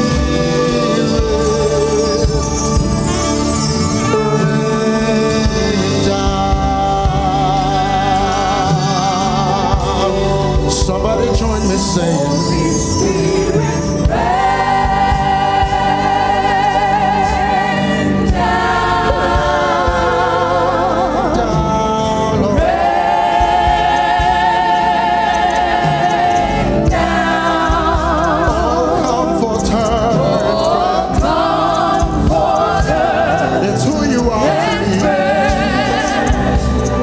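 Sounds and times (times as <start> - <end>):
gospel choir singing: 0.0 - 37.0
low instrumental accompaniment: 0.0 - 37.0.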